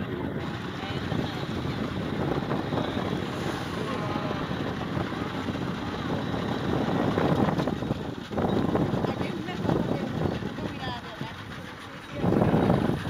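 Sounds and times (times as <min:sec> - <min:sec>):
boat motor rumbling: 0:00.0 - 0:13.0
wind on microphone: 0:00.0 - 0:13.0.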